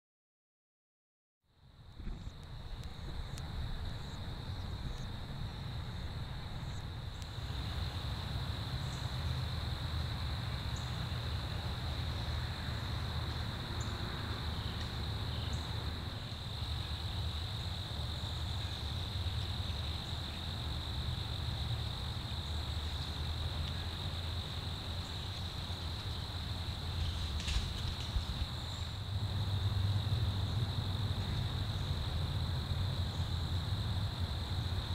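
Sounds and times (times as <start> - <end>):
crickets chirping: 1.5 - 34.9.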